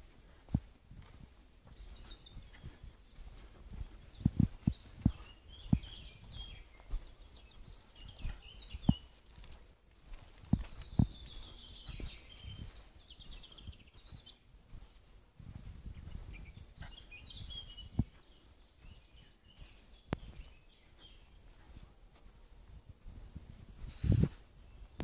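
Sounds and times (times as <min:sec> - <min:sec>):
footsteps on sandy path: 0:00.0 - 0:25.0
songbirds chirping and trilling: 0:00.0 - 0:25.0.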